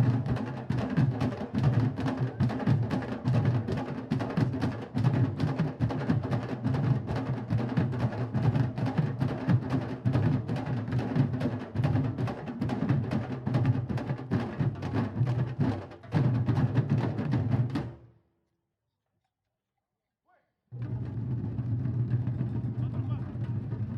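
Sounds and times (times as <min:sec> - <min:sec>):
drum line playing: 0:00.0 - 0:18.0, 0:20.8 - 0:23.9.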